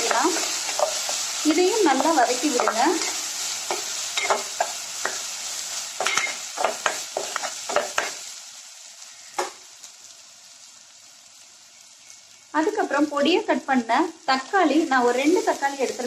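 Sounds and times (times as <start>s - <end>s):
onions frying in hot oil: 0.0s - 16.0s.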